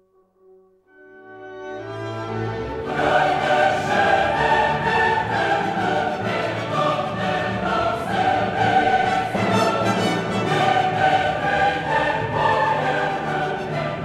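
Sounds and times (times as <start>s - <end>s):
orchestral music with choir: 0.9s - 14.0s.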